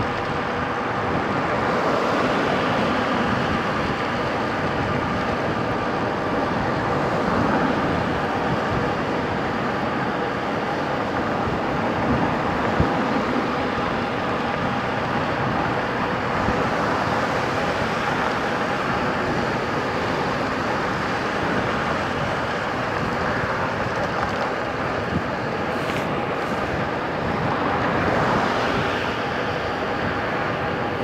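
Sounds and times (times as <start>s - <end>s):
road noise from bike: 0.0s - 31.0s.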